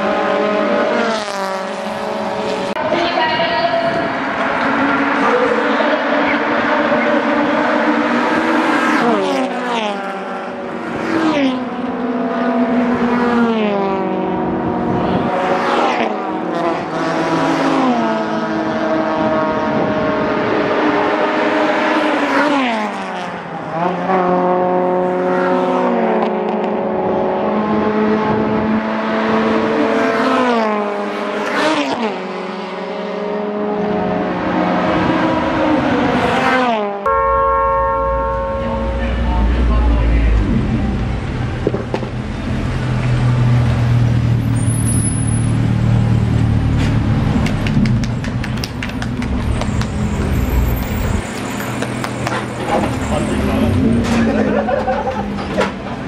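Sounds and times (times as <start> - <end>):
race car engines revving past: 0.0 - 56.0.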